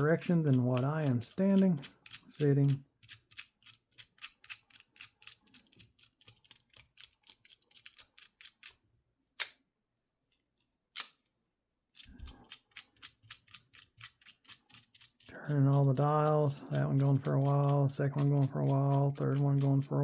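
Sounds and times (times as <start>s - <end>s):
padlock dials clicking: 0.0s - 8.8s, 12.0s - 20.0s.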